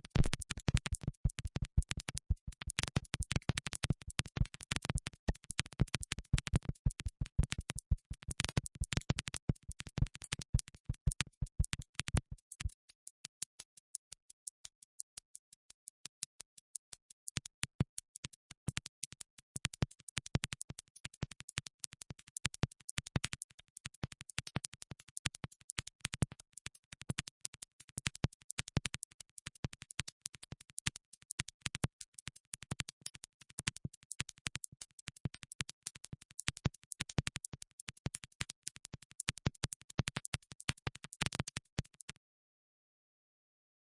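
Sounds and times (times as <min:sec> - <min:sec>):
rapid sharp clicks: 0:00.0 - 0:42.2.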